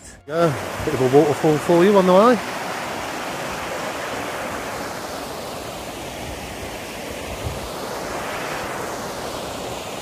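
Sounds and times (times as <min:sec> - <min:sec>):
water rushing over waterfall: 0:00.3 - 0:10.0.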